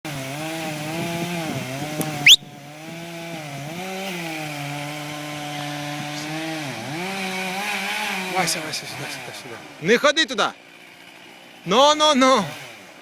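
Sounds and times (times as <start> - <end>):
chainsaw engine running: 0.1 - 13.0.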